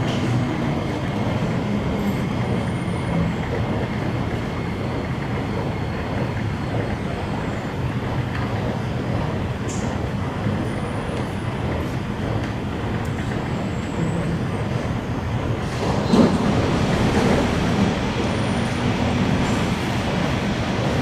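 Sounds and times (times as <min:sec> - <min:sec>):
low rumble of train approaching: 0:00.0 - 0:21.0.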